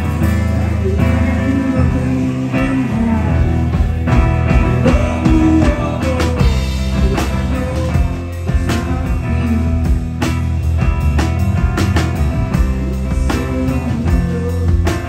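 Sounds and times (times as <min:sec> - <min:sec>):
person singing: 0:00.0 - 0:10.3, 0:12.8 - 0:15.0
bass guitar: 0:00.0 - 0:15.0
drum kit: 0:00.0 - 0:15.0
electric guitar: 0:00.0 - 0:15.0.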